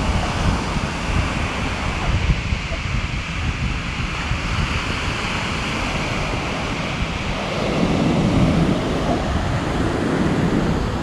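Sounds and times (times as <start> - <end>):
surf washing on beach: 0.0 - 11.0
wind buffeting microphone: 0.0 - 11.0.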